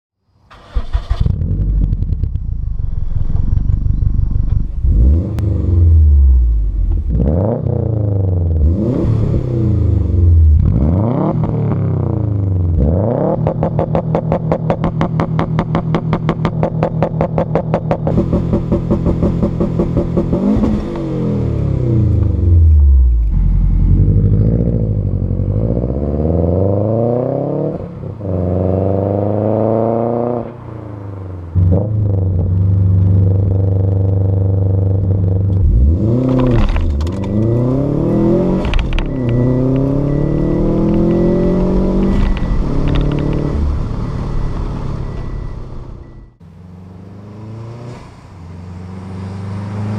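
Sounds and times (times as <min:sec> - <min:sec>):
loud car engine revving: 0:00.6 - 0:49.9.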